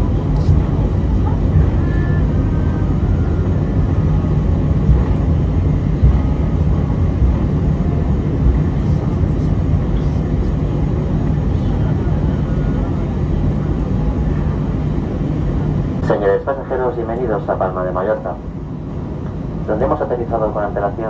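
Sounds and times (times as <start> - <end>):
low rumble in airliner cabin: 0.0 - 21.0.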